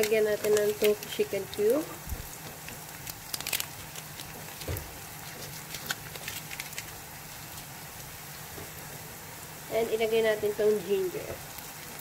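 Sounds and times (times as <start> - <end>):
onion and garlic frying: 0.0 - 12.0.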